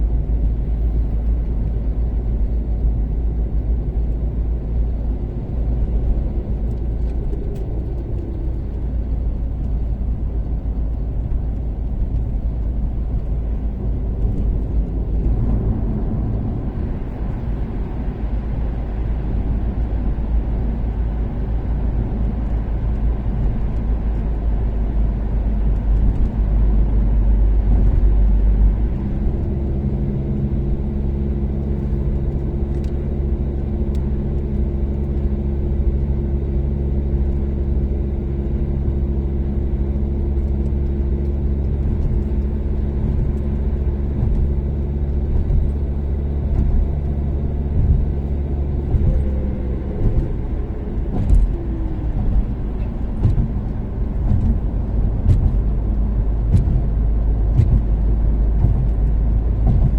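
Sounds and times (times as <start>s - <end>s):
car engine cruising: 0.0s - 59.9s.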